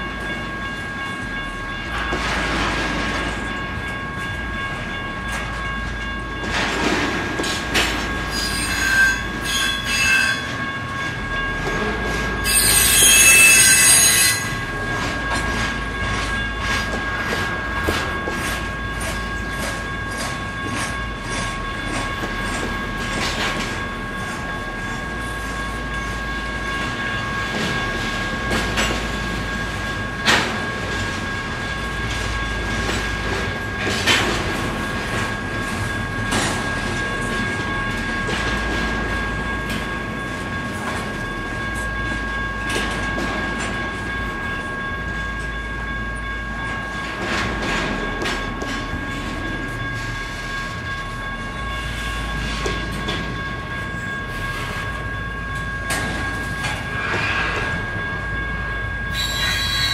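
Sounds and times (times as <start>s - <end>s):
freight train rumbling: 0.0s - 59.9s
railroad crossing bell ringing: 0.0s - 59.9s
train wheels squealing: 8.1s - 59.9s.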